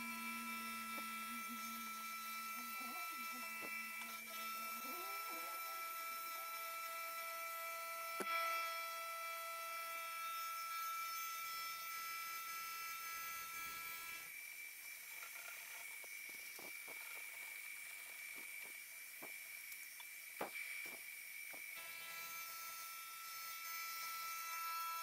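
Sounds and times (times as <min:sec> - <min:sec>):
milling machine whine: 0:00.0 - 0:25.0.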